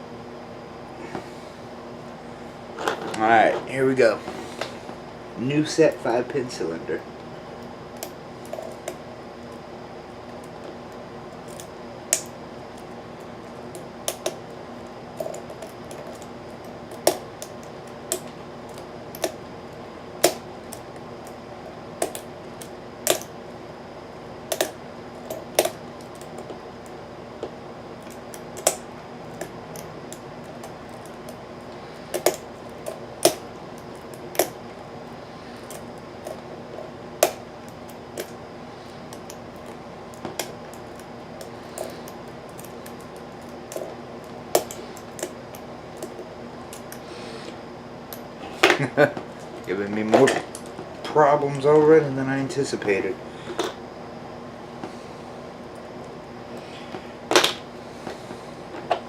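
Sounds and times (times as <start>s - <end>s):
faint hum: 0.0s - 59.0s.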